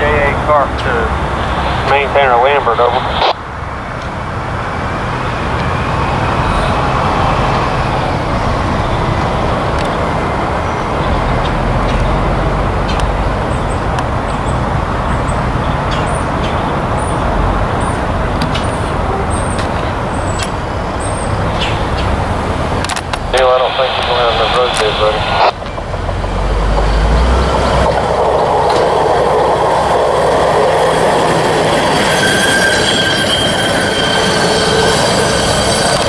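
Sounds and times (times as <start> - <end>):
heavy machinery roaring: 0.0 - 36.0.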